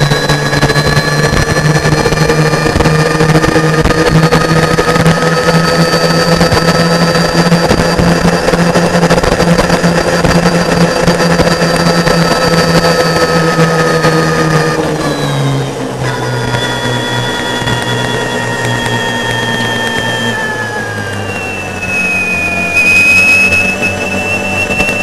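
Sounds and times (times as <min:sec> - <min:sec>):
electric motor whining: 0:00.0 - 0:25.0
steady rushing noise: 0:00.0 - 0:25.0.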